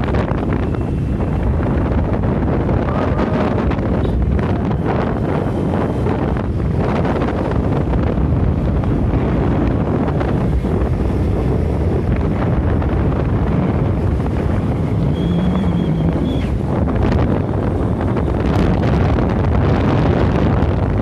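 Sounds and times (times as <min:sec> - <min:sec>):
engine and road rumble: 0:00.0 - 0:21.0
wind buffeting microphone: 0:00.0 - 0:21.0.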